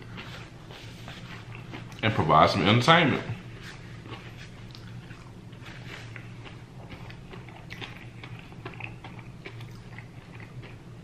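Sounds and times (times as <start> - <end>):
light chewing: 0.0 - 2.3, 3.3 - 10.9
steady low hum: 0.0 - 11.0.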